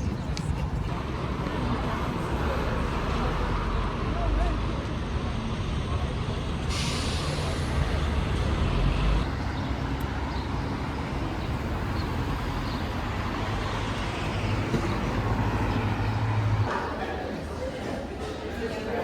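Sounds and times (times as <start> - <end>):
low rumble of road traffic: 0.0 - 17.7.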